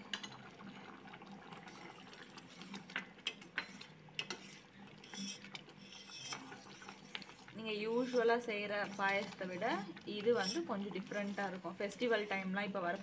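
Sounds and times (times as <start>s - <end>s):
milk bubbling: 0.0s - 13.0s
spoon scraping steel pan: 2.6s - 13.0s.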